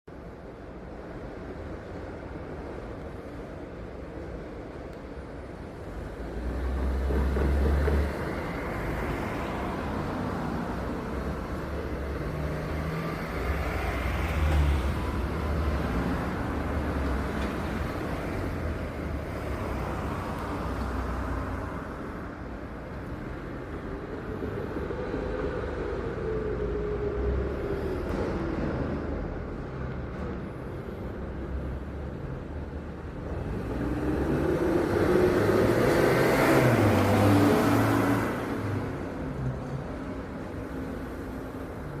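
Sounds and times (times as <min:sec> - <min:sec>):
vehicles passing: 0:00.1 - 0:42.0.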